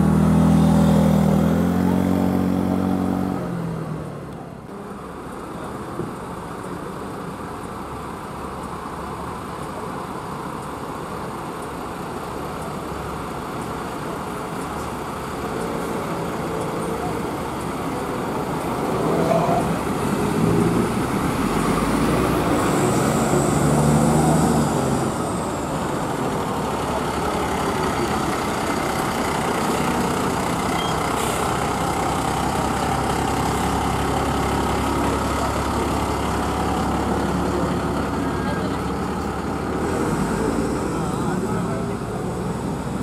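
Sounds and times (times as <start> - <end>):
fire engine running: 0.0 - 43.0.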